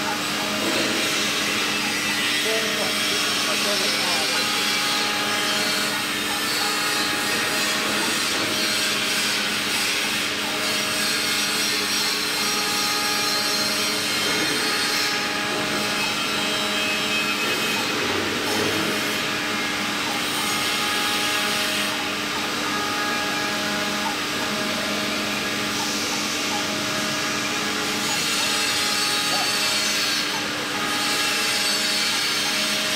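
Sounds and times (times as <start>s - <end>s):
milling machine cutting noise: 0.0s - 32.9s
spindle motor humming: 0.0s - 32.9s.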